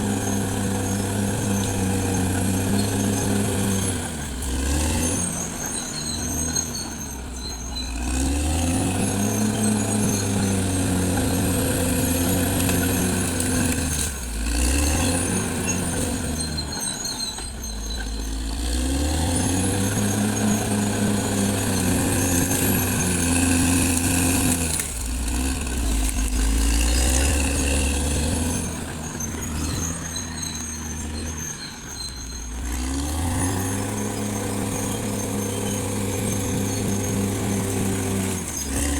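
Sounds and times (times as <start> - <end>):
bulldozer diesel engine under load: 0.0 - 38.9.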